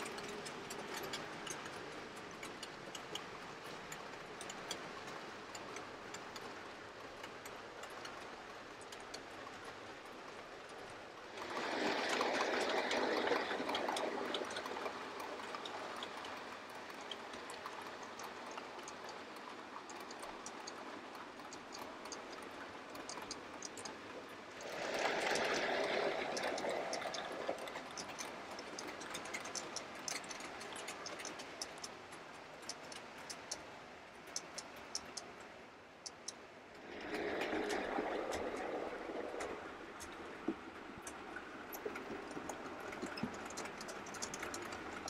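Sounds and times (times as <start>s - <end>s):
model trains rolling: 0.0s - 45.0s
wheels clicking over rail joints: 0.0s - 45.0s.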